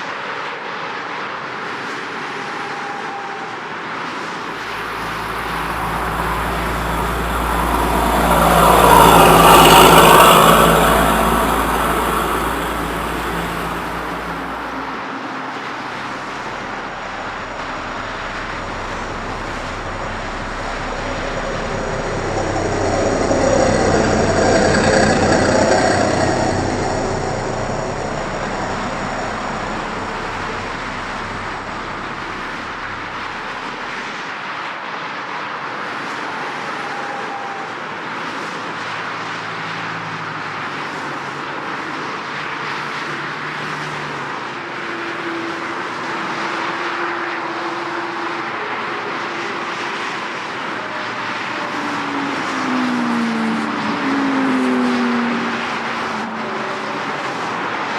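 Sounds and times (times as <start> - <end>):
passing vehicles rushing: 0.0 - 57.9.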